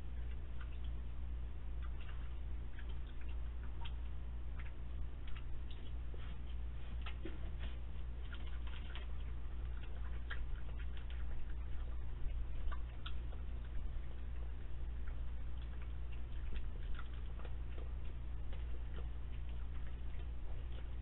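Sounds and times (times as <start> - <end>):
raccoon crunching dry cat food: 0.0 - 21.0
steady low hum: 0.0 - 21.0.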